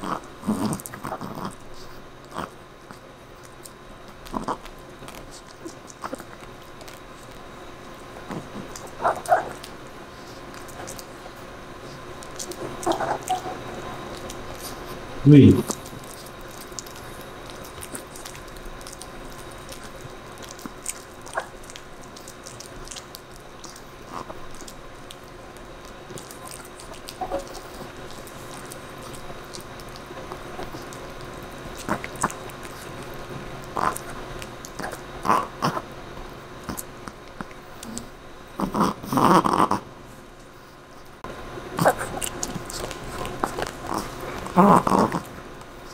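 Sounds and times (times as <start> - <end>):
dog teeth crunching on bone: 0.0 - 35.9, 36.6 - 39.8, 41.8 - 45.9.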